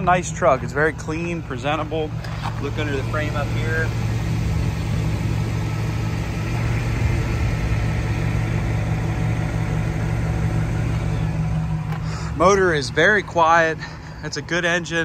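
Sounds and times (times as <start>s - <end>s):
engine idling quietly: 0.0s - 15.0s.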